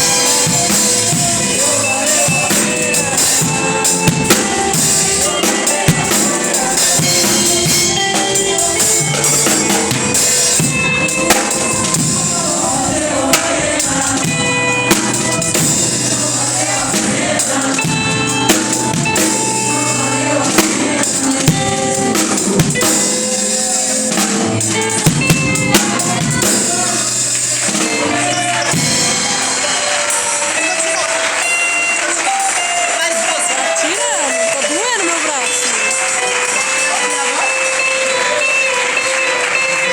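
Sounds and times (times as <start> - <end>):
drum kit playing: 0.0 - 39.9
held instrument notes: 0.0 - 39.9.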